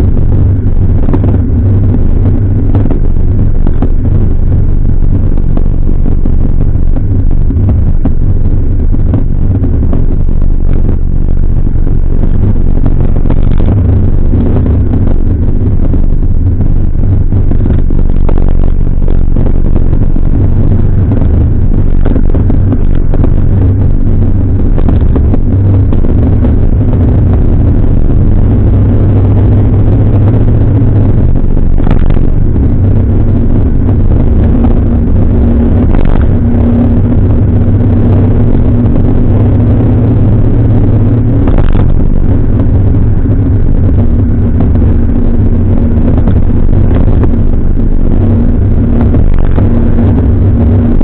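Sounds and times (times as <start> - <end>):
car engine cruising: 0.0 - 51.0
road and wind noise: 0.0 - 51.0.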